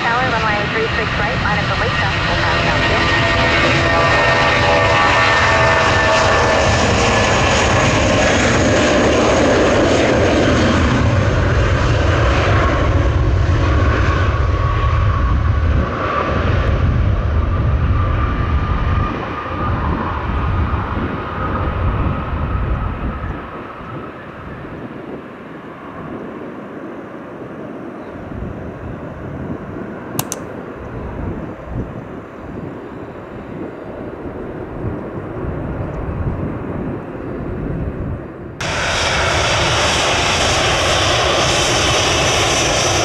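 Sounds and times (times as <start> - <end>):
jet engines passing: 0.0 - 43.0.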